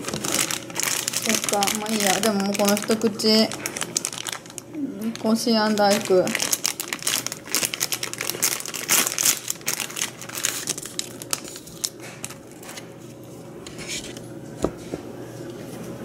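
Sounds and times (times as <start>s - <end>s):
plastic bag crinkling: 0.0s - 13.1s.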